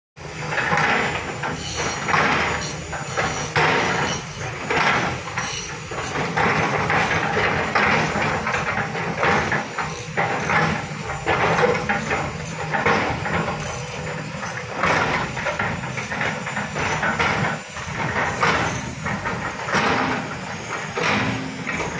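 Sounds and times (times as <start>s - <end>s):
excavator diesel engine running: 0.2s - 21.9s.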